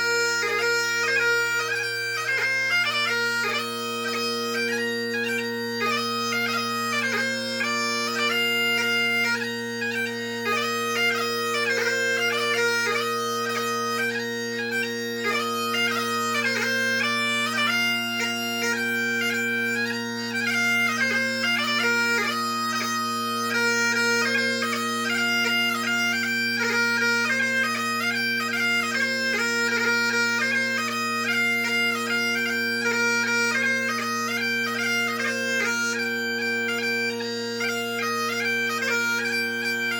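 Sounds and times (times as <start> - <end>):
bagpipe playing: 0.0 - 39.9.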